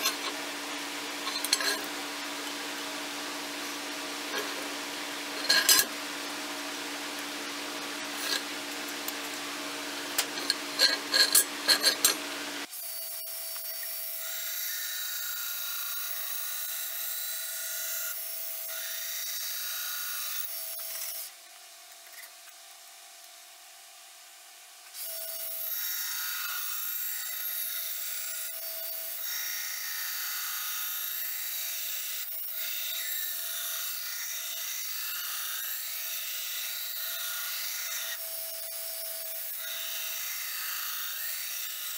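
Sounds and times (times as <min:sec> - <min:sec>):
belt grinder grinding metal: 0:00.0 - 0:02.8, 0:04.2 - 0:06.3, 0:07.2 - 0:21.3, 0:25.0 - 0:41.9.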